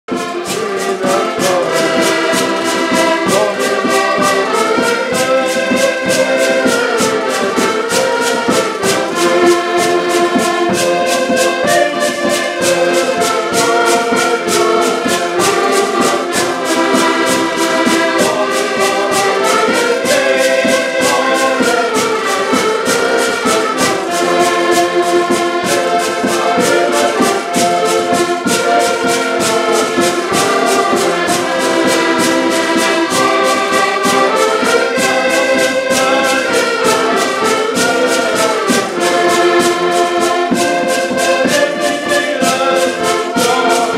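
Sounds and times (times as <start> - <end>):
button accordions playing folk tune: 0.0 - 43.9
wooden percussion beat: 0.1 - 43.9.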